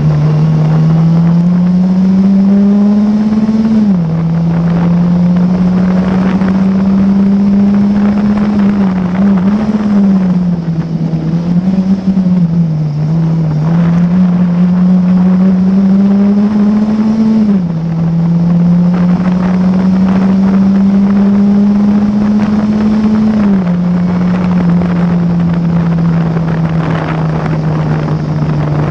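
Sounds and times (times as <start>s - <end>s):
racing car engine: 0.0s - 28.9s.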